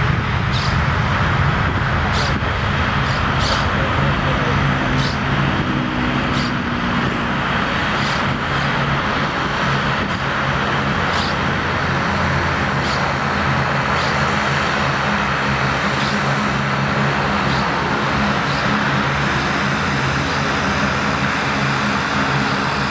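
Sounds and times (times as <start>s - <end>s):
jet engines roaring: 0.0s - 22.9s
propellers low tones: 0.0s - 22.9s.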